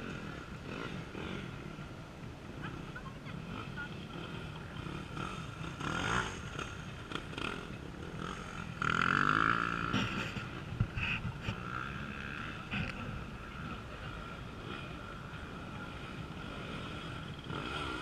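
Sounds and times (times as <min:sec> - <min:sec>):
motorcycle engines running: 0:00.0 - 0:18.0
motorcycle revving hard: 0:00.0 - 0:18.0.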